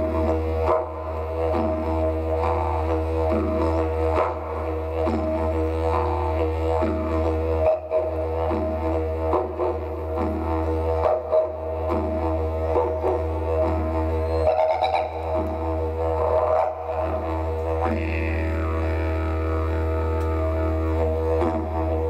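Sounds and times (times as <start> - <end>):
didgeridoo drone: 0.0 - 22.0.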